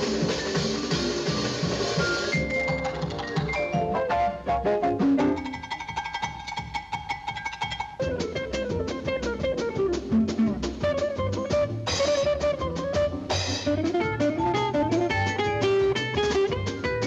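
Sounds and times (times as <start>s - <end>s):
lively cartoon music: 0.0s - 17.0s.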